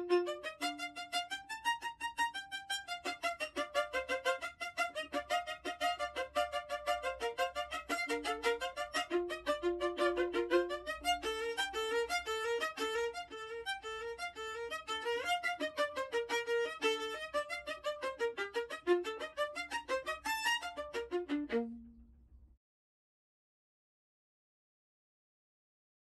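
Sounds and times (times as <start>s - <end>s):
violin melody: 0.0s - 22.1s.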